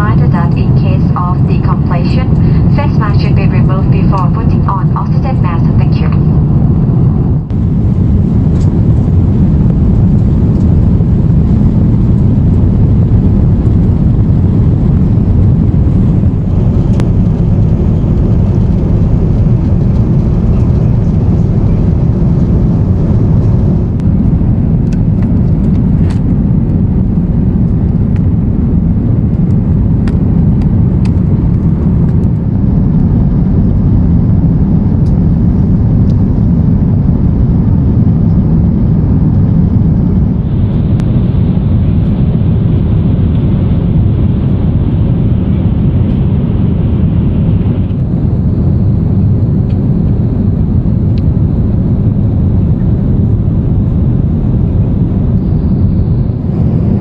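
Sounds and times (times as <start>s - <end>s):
airflow over fuselage: 0.0s - 57.0s
airplane cabin engine roar: 0.0s - 57.0s.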